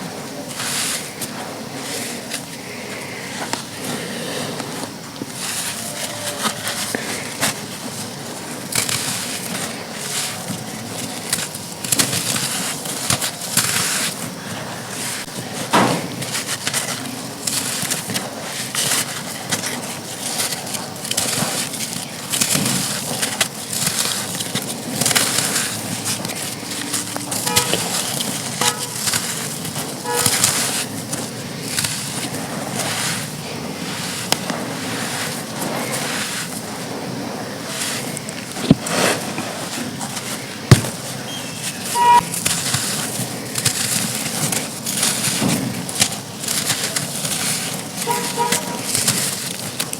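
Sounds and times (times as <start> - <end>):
packed sand crunching: 0.0 - 49.9.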